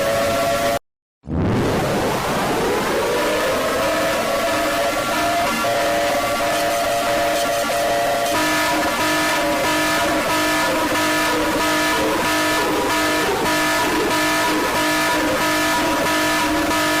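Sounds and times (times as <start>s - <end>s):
pulsing electronic alarm tones: 3.0s - 17.0s.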